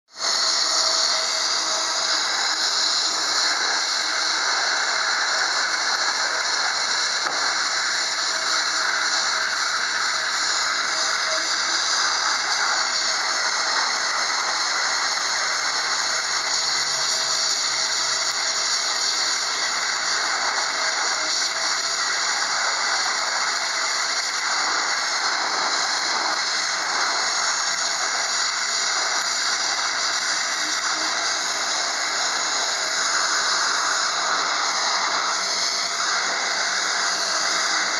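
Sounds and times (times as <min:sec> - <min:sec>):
pressure washer jet hissing on concrete: 0:00.1 - 0:37.9.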